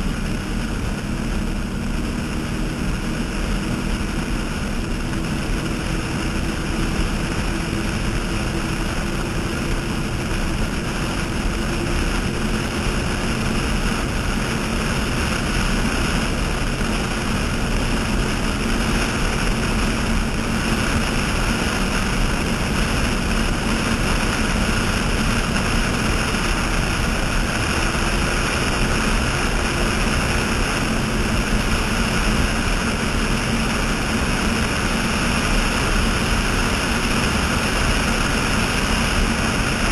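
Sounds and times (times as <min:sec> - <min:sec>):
boat engines droning: 0:00.0 - 0:39.9
wind and spray rushing: 0:00.0 - 0:39.9.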